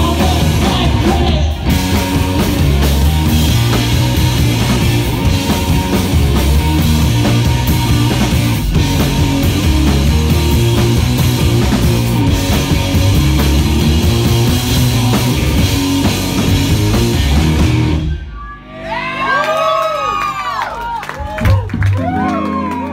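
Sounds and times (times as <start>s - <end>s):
punk rock band playing: 0.0s - 19.3s.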